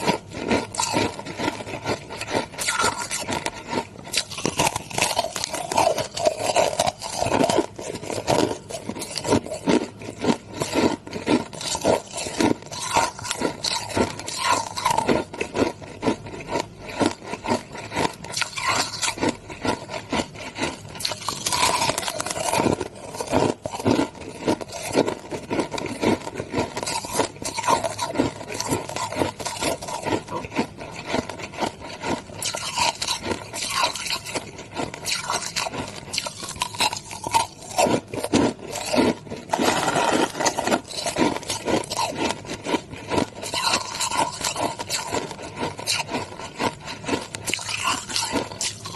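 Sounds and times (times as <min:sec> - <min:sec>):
crushed ice being chewed: 0:00.0 - 0:48.9.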